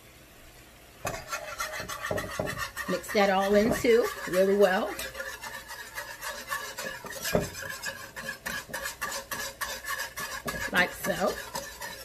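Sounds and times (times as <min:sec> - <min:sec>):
wire whisk scraping a pan: 0:01.0 - 0:12.0.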